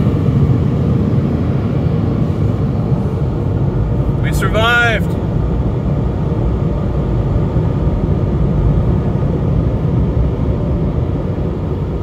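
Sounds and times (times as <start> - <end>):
car wash blowers rushing air: 0.0 - 12.0.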